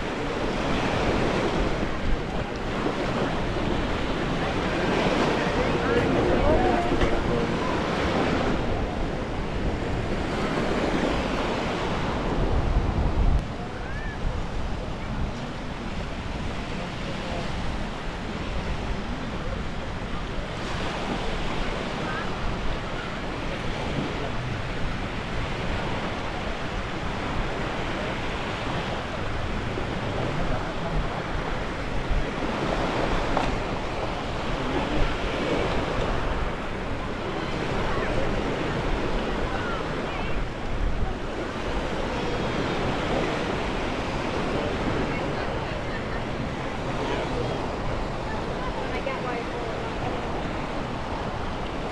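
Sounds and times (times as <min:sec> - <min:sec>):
wind buffeting microphone: 0:00.0 - 0:49.4
small waves breaking on shore: 0:00.0 - 0:51.9.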